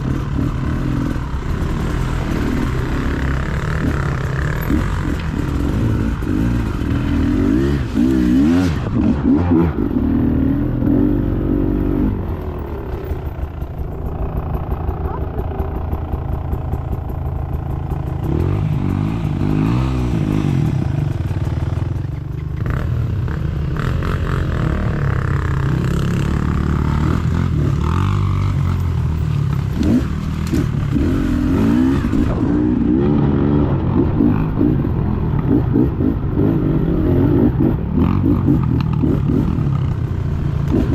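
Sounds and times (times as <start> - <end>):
dirt bike engine revving: 0.0 - 21.8, 22.6 - 40.9.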